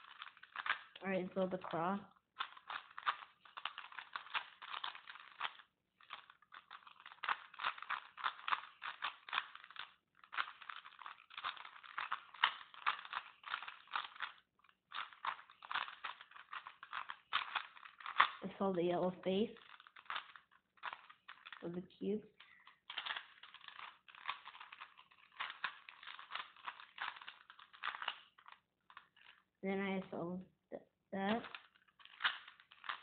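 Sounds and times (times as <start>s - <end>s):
plastic puzzle cube clicking: 0.0s - 18.4s, 19.5s - 21.7s, 22.3s - 29.4s, 31.2s - 33.0s.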